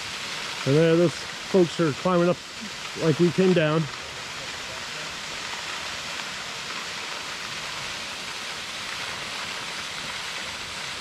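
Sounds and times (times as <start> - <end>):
waterfall rushing onto rocks: 0.0 - 11.0.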